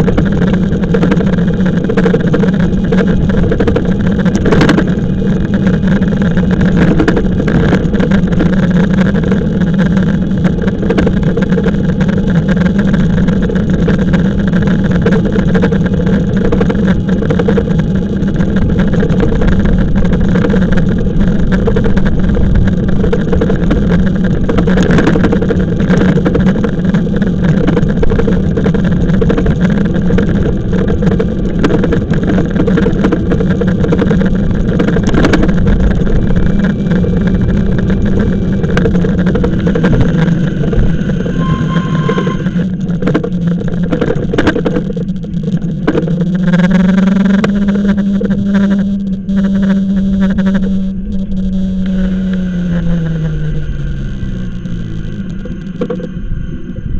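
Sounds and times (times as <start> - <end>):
e-bike motor hum: 0.0 - 56.9
rushing wind noise: 0.0 - 56.9.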